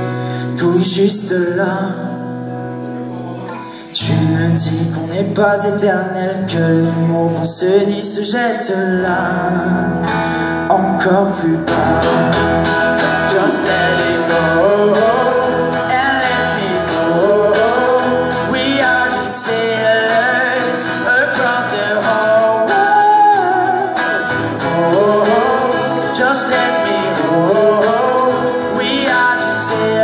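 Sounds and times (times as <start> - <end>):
man singing: 0.0 - 2.4, 3.4 - 30.0
acoustic guitars strumming: 0.0 - 30.0.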